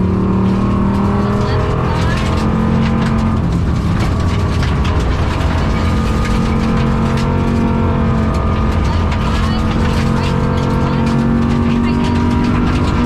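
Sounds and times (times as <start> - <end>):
car engine under load: 0.0 - 13.0
gravel rattling against car body: 0.0 - 13.0.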